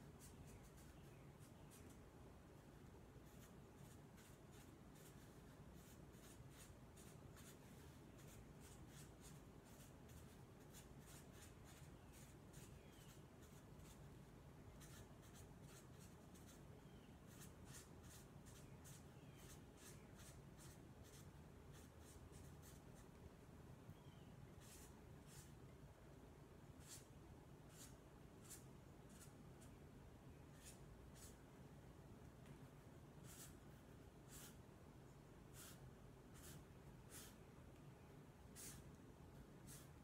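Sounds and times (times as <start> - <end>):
marker drawing on paper: 0.0 - 2.0, 2.6 - 23.2, 24.5 - 25.6, 26.8 - 29.8, 30.5 - 31.4, 33.2 - 34.7, 35.4 - 37.5, 38.4 - 40.0.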